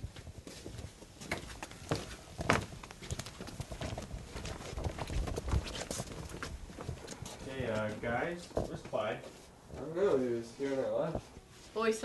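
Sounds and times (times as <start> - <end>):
footsteps on carpet: 0.0 - 9.9.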